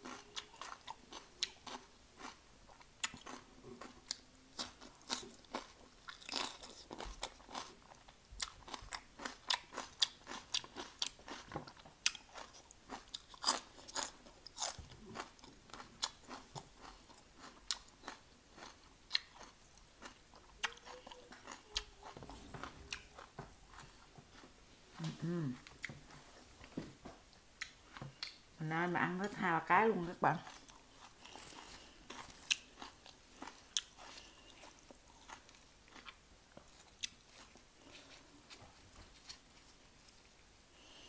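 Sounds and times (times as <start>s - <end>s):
crunching and chewing crispy food: 0.0s - 26.4s, 30.4s - 41.0s.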